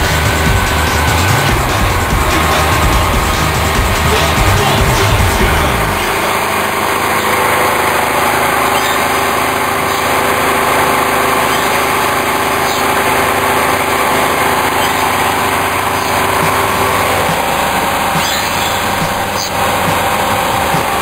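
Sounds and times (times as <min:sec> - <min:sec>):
milling machine spindle motor: 0:00.0 - 0:21.0.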